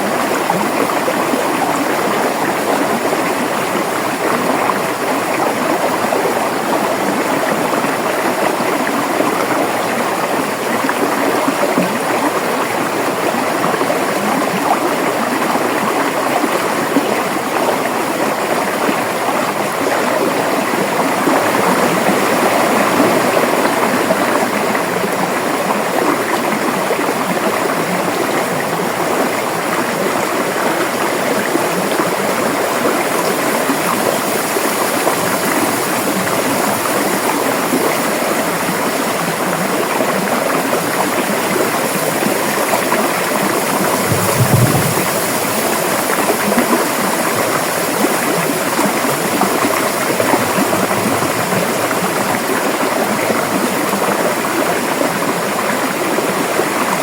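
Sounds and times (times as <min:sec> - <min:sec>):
river water over rocks: 0:00.0 - 0:57.0.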